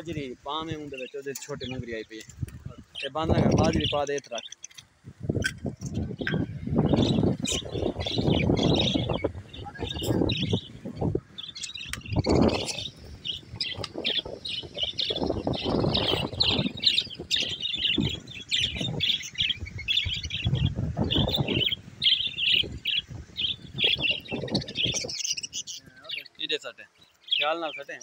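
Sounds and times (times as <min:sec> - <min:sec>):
budgerigars chattering: 0:00.0 - 0:04.8, 0:05.8 - 0:28.0.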